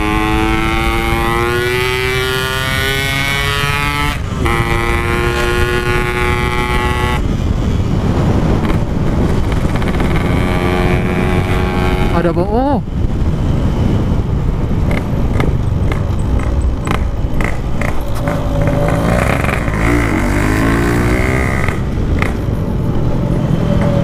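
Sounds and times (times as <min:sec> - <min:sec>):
two-stroke motorcycle engine: 0:00.0 - 0:07.6, 0:08.5 - 0:12.3, 0:14.8 - 0:22.7
road and wind noise: 0:00.0 - 0:24.0.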